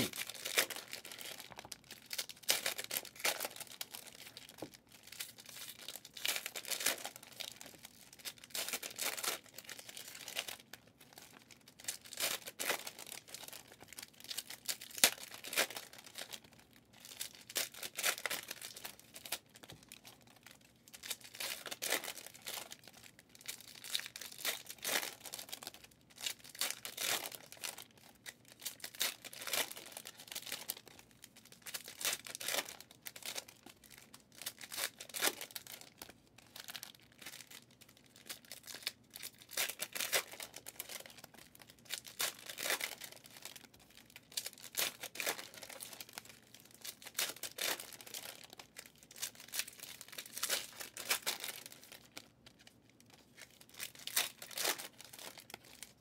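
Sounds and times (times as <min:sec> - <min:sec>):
foil wrappers tearing and crinkling: 0:00.0 - 0:56.0.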